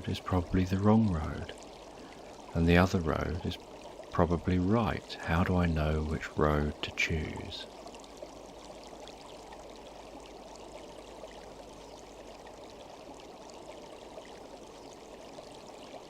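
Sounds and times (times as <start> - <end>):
stream running water: 0.0 - 16.0.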